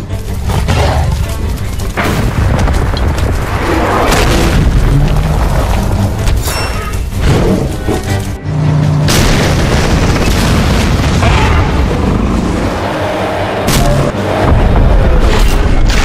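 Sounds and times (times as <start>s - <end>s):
dense action music: 0.0s - 16.0s.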